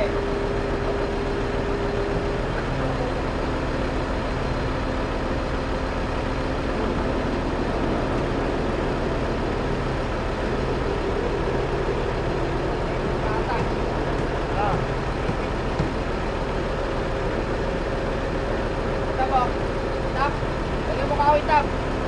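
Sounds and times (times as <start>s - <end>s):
heavy vehicle engine humming: 0.0s - 22.0s.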